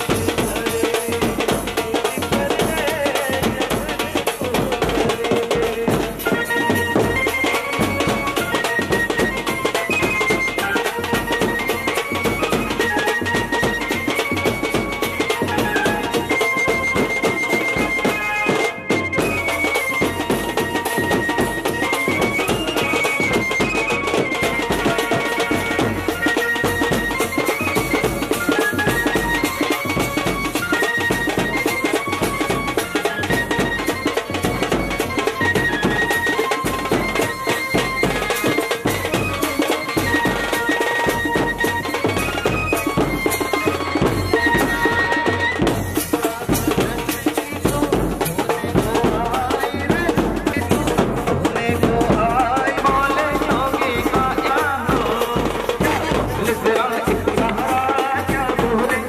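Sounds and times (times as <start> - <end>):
steady drum beat: 0.0 - 59.0.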